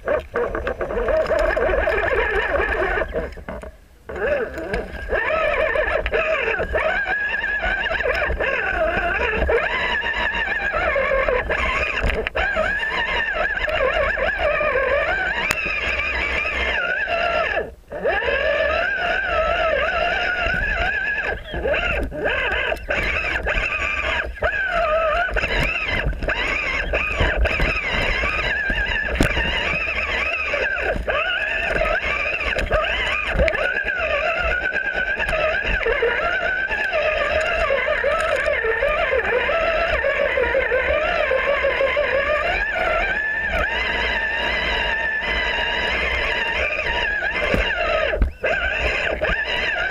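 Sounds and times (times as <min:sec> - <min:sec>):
electric motor whining: 0:00.0 - 0:49.9.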